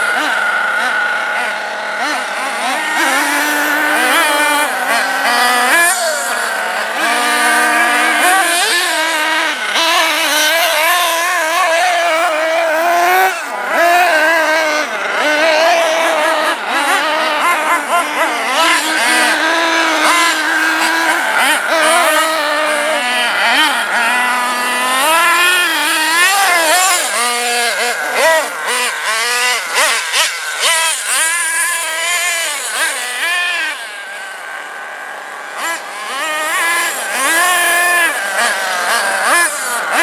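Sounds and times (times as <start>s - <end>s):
high-pitched model engine buzz: 0.0s - 40.0s.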